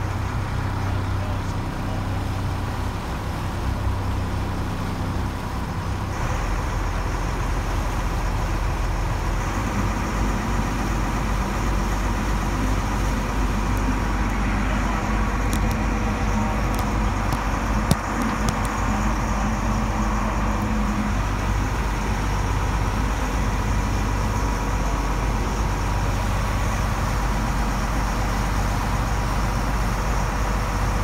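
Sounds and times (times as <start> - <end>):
churning wake water: 0.0 - 31.0
motorboat engine running: 0.0 - 31.0.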